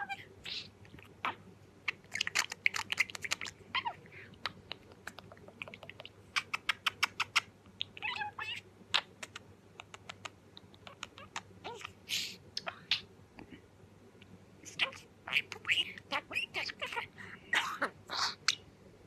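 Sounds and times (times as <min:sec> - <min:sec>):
budgerigar chattering: 0:00.0 - 0:09.3, 0:09.9 - 0:13.1, 0:14.7 - 0:18.6.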